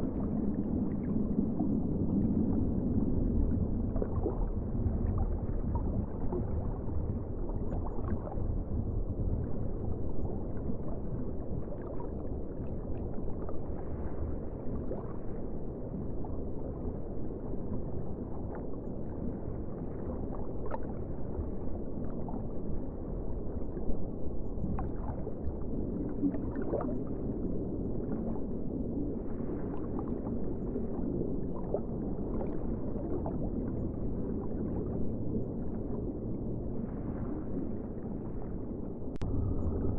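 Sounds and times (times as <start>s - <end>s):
muffled ocean water wash: 0.0s - 39.9s
water gurgles and splashes: 0.0s - 39.9s.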